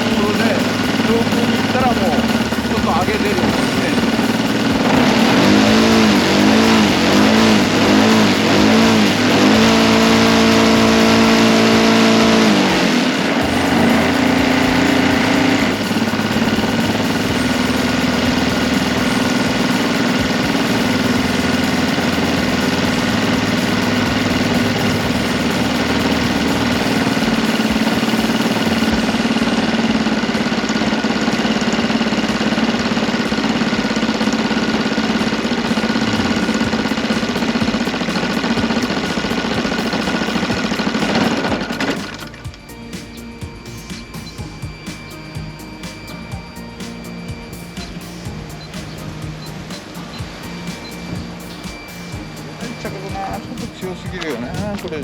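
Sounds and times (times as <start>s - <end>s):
model aircraft engine revving: 0.0s - 55.0s.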